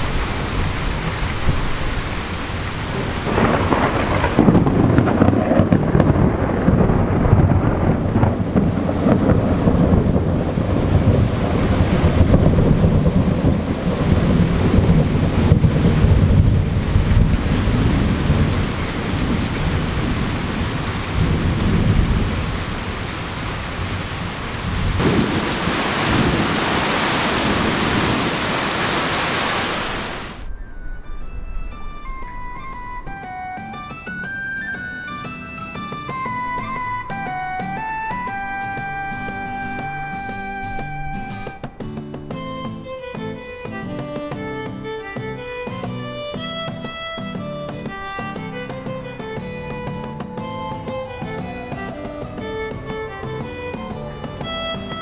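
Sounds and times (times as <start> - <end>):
thunder rumbling: 0.0 - 41.8, 46.1 - 55.0
heavy rain pouring: 0.0 - 55.0.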